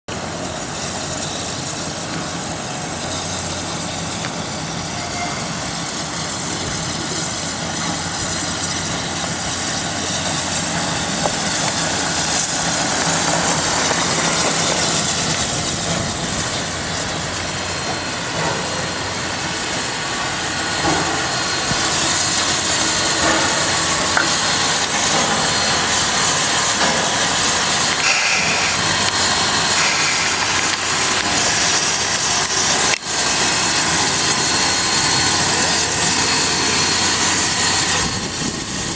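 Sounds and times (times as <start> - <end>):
steam locomotive hissing: 0.1 - 38.9.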